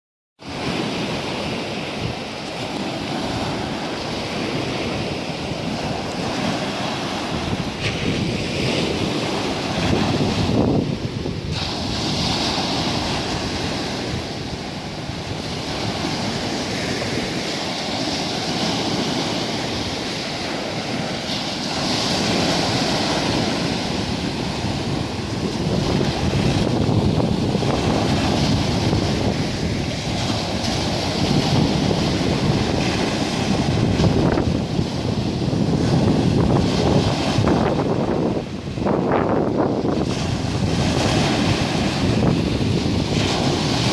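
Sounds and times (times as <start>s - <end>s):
sea waves washing onto beach: 0.4s - 43.9s
wind rumbling on microphone: 0.4s - 43.9s.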